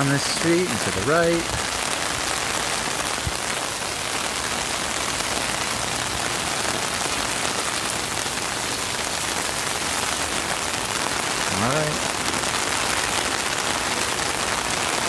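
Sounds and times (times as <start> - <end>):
rain on an umbrella: 0.0 - 15.0
steady rain: 0.0 - 15.0.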